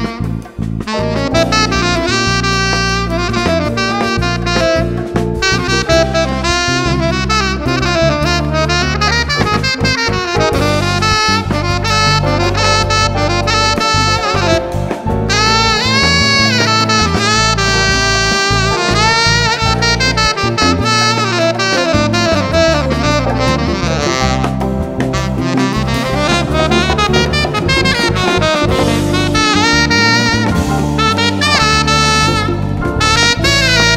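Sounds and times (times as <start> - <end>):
latin jazz band: 0.0 - 33.9
tenor saxophone jazz line: 0.0 - 33.9.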